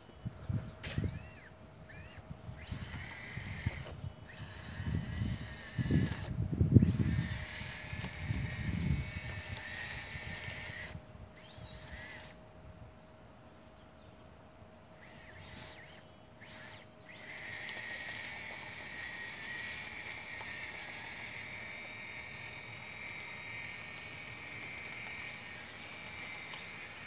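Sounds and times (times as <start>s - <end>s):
hydraulic pump whining: 0.6s - 12.5s, 14.9s - 27.0s.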